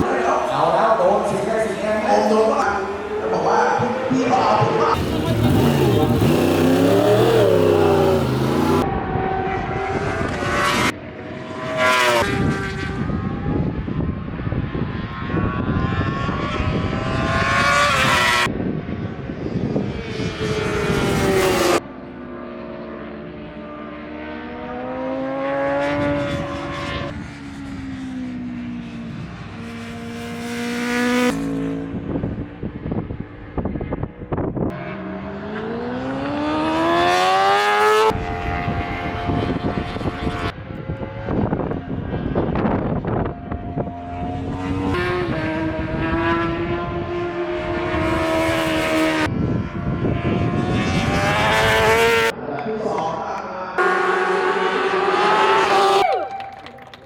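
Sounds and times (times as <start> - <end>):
racing motorcycle engines revving: 0.0 - 57.0.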